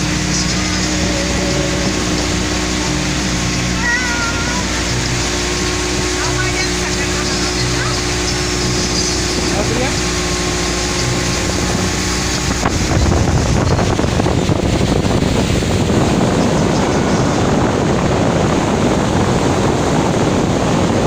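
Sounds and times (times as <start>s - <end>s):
motorboat engine humming: 0.0s - 21.0s
water noise: 0.0s - 21.0s
wind on microphone: 0.0s - 21.0s.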